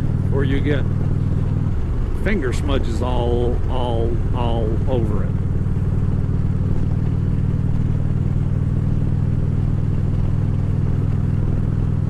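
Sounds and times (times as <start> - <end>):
motorcycle engine cruising: 0.0 - 12.0
road noise: 0.0 - 12.0.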